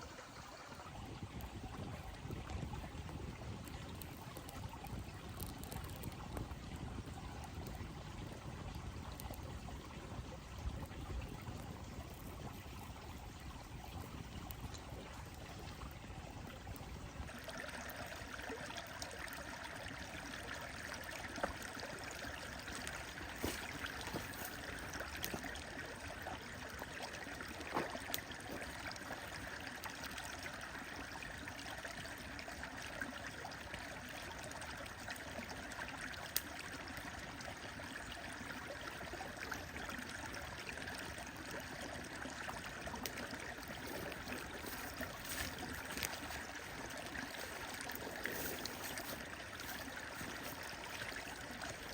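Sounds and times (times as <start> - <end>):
stream water running: 0.0 - 51.9.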